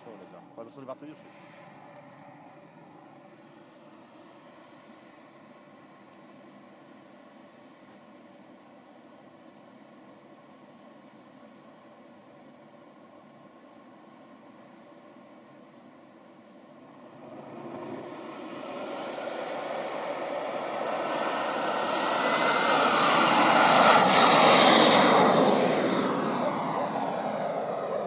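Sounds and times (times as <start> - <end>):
model jet turbine whine: 0.0 - 28.0.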